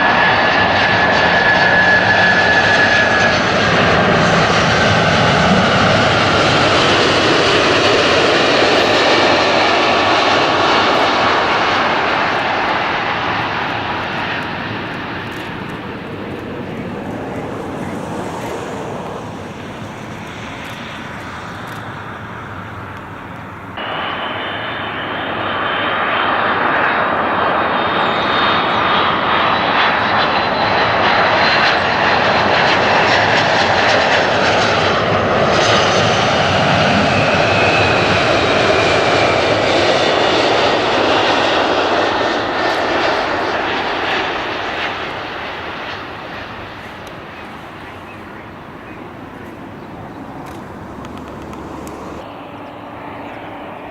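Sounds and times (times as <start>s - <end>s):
high engine whine: 0.0s - 53.9s
jet engines roaring: 0.0s - 53.9s.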